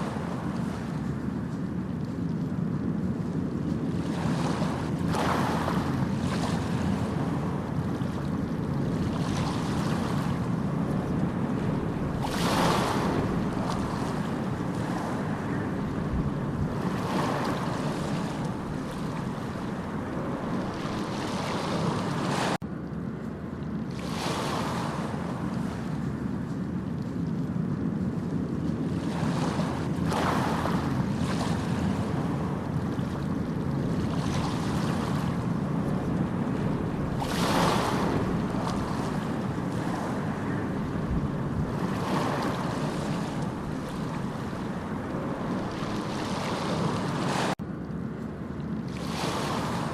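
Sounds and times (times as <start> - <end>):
sea waves breaking: 0.0 - 49.9.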